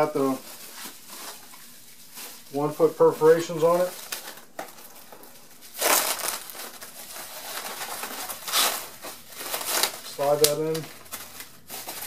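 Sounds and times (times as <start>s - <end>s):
bubble wrap rustling and crinkling: 0.0s - 12.0s.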